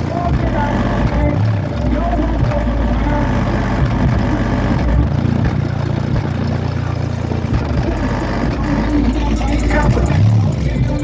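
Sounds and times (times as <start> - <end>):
subwoofer deep bass notes: 0.0 - 11.0.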